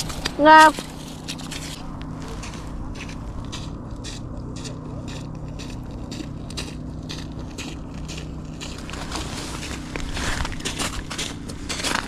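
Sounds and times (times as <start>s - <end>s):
footsteps crunching over snow: 0.0s - 12.0s
steady low hum: 0.0s - 12.0s.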